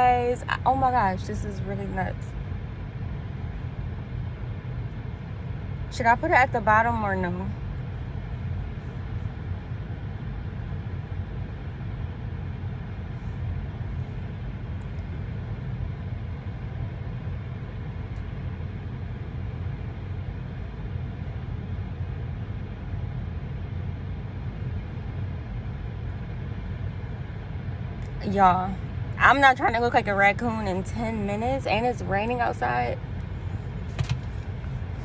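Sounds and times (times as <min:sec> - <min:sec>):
car interior rumble and hiss: 0:00.0 - 0:35.0.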